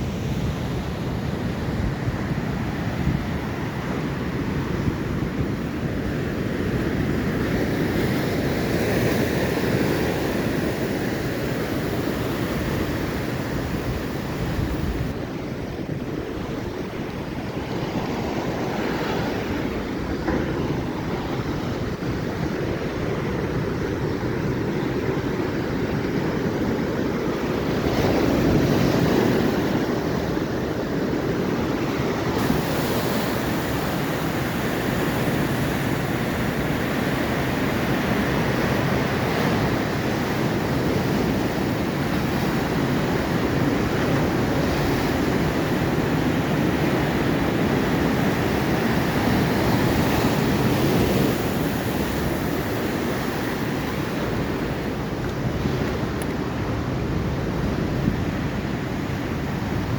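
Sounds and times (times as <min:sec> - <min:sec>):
waves breaking on shore: 0:00.0 - 0:59.9
wind rumbling on microphone: 0:00.0 - 0:59.9.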